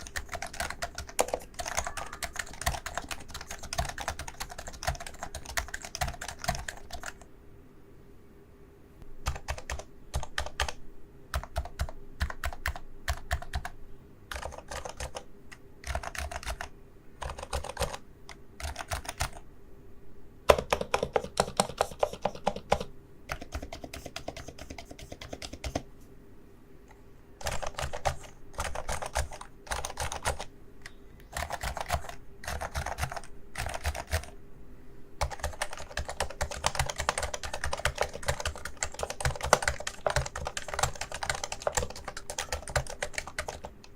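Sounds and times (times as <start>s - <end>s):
keyboard typing: 0.0s - 7.3s, 9.2s - 19.4s, 20.5s - 25.9s, 26.9s - 34.4s, 35.2s - 43.9s.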